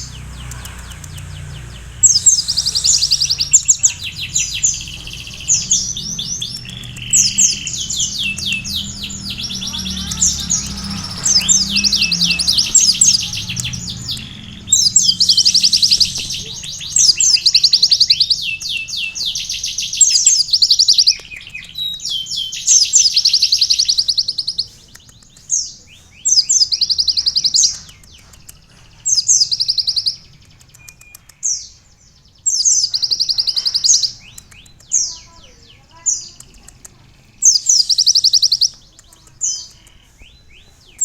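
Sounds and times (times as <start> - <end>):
sunbird high rattling trills: 0.0 - 41.0.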